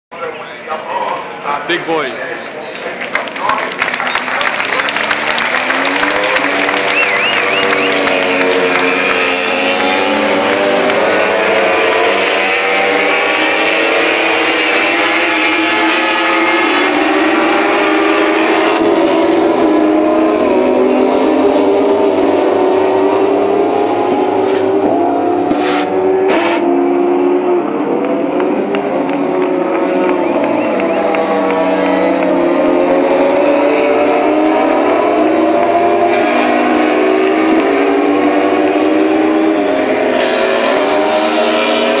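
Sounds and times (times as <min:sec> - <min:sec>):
racing motorcycles revving high: 0:04.9 - 0:42.0.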